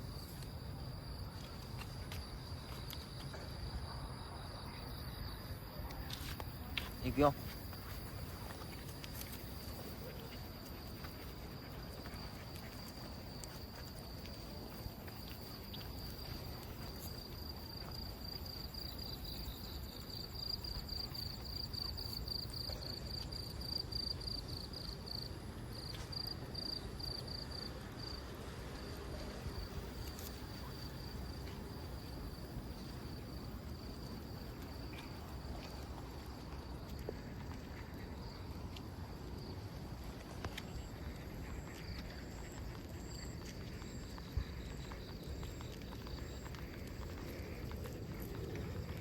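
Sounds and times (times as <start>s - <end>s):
insects trilling and chirping: 0.0s - 49.0s
outdoor background noise: 0.0s - 49.0s.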